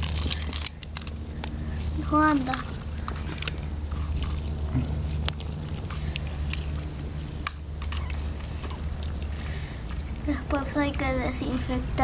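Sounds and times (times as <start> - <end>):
cat crunching on fish: 0.0 - 12.0
steady low hum: 0.0 - 12.0.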